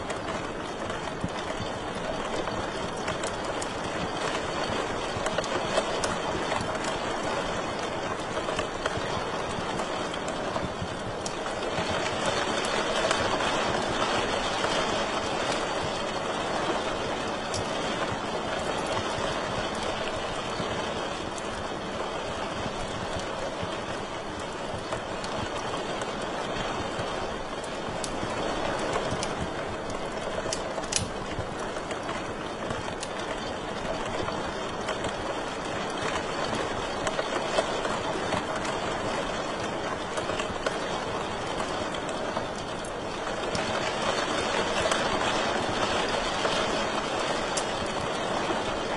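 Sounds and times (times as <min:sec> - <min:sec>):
small fire pops: 0:00.0 - 0:48.9
wood fire hissing: 0:00.0 - 0:48.9.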